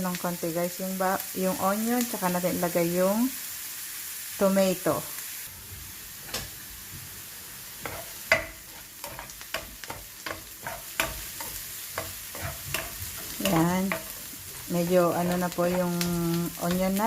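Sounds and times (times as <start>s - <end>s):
onion sizzling in frying pan: 0.0s - 17.0s.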